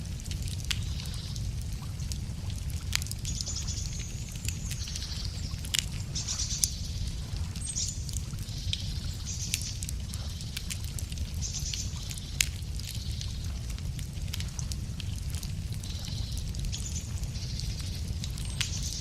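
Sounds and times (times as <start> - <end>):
steady low rumble: 0.0 - 19.0
wood fire crackling and popping: 0.0 - 19.0.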